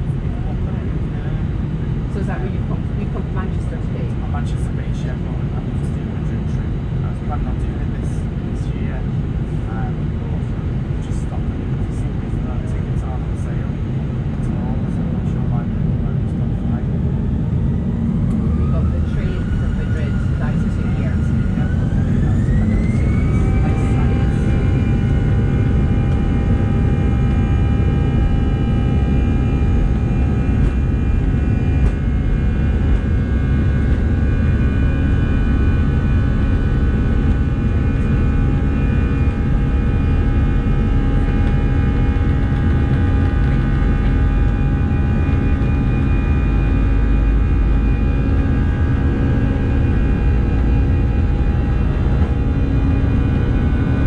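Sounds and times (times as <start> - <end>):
jet engines in cabin: 0.0 - 54.0.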